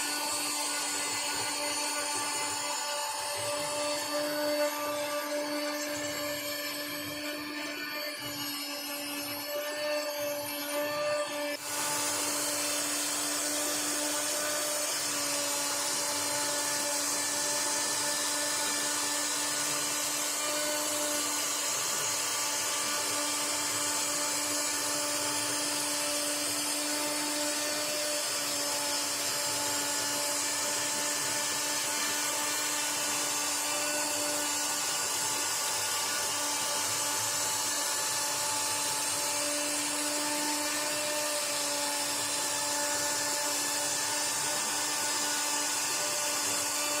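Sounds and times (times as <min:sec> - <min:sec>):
router spindle whining: 0:00.0 - 0:47.0.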